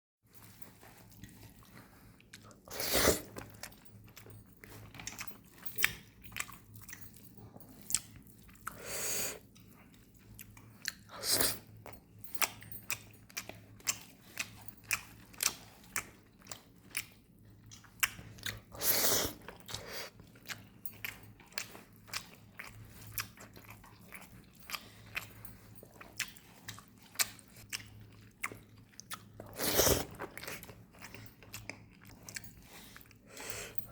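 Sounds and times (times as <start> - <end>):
person chewing food: 0.4 - 33.9.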